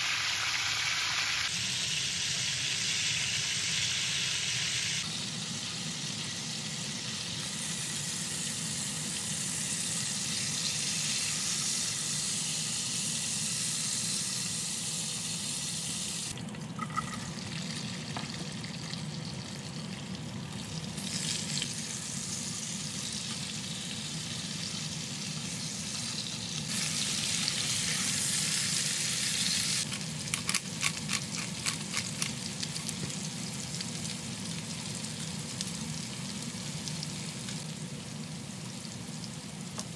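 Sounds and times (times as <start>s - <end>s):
oil sizzling in a skillet: 0.0s - 39.9s.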